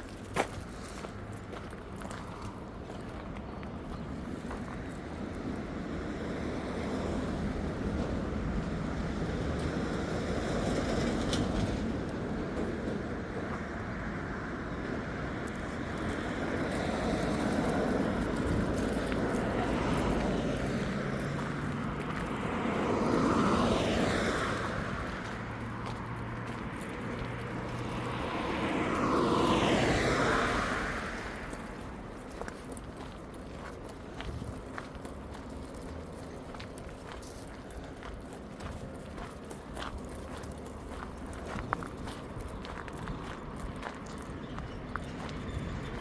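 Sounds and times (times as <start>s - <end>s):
vehicles passing by: 0.0s - 46.0s.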